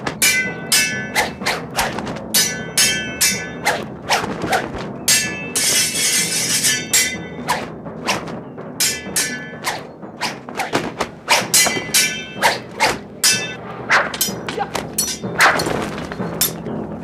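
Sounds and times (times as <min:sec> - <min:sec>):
swords clashing: 0:00.0 - 0:08.2, 0:08.8 - 0:16.6.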